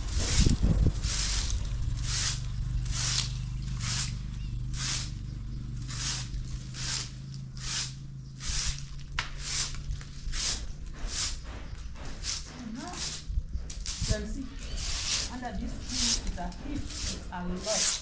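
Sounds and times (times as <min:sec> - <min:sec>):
broom sweeping over paving: 0:00.0 - 0:05.2, 0:05.8 - 0:18.0
low steady hum: 0:00.0 - 0:18.0.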